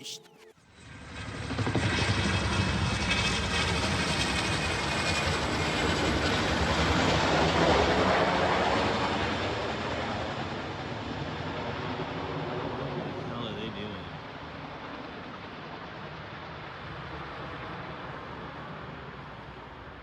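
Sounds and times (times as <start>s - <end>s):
helicopter flying overhead: 0.7s - 20.0s.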